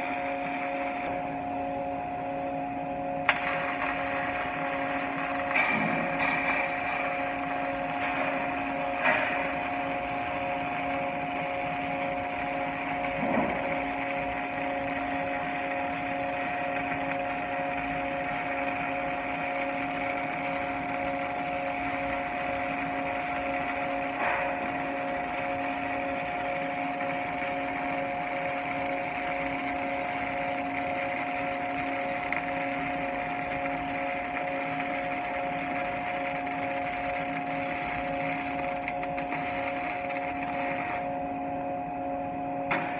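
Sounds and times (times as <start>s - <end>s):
welding equipment hum and hiss: 0.0s - 42.9s.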